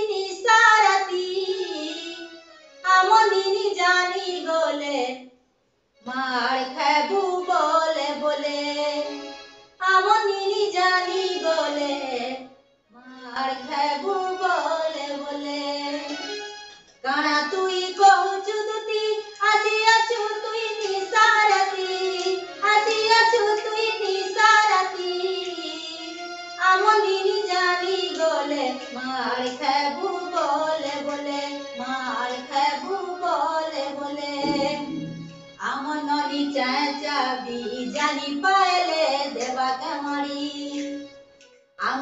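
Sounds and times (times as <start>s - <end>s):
woman singing unaccompanied: 0.0s - 5.2s, 6.0s - 9.2s, 9.8s - 16.2s, 17.0s - 34.9s, 35.6s - 41.0s, 41.8s - 42.0s.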